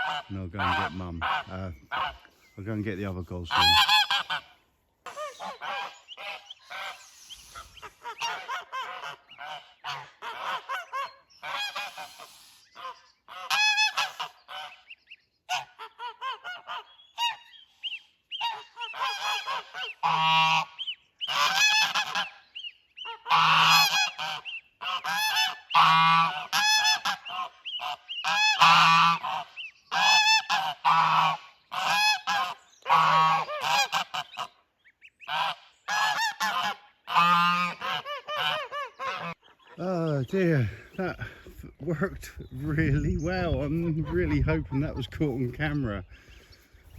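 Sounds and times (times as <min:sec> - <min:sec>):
geese honking: 0:00.0 - 0:46.6.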